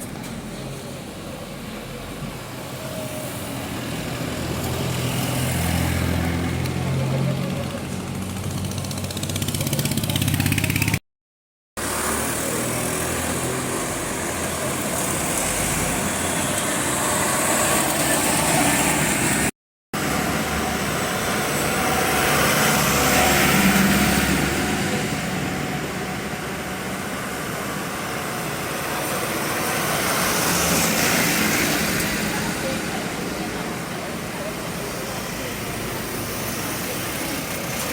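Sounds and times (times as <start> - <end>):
traffic noise: 0.0 - 11.0, 11.8 - 37.9
vehicle engine: 0.0 - 11.0, 11.8 - 37.9.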